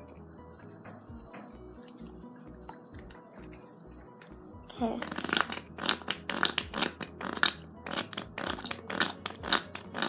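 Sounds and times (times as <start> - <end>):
slime squelching: 1.9 - 10.0.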